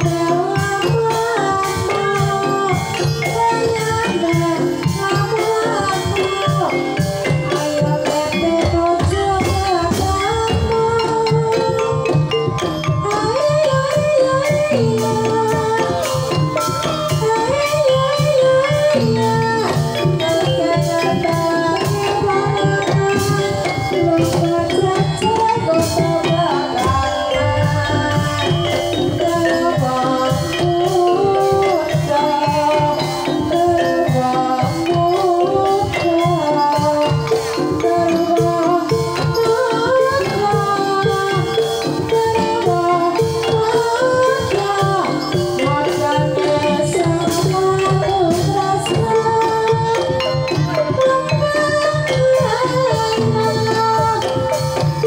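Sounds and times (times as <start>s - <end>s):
hand drums: 0.0s - 55.0s
person singing wavering melody: 0.0s - 55.0s
wooden xylophone struck with mallets: 0.0s - 55.0s.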